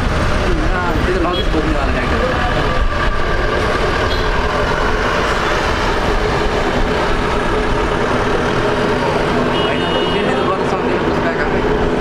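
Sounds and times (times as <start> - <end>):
engine rumble and whine: 0.0 - 12.0.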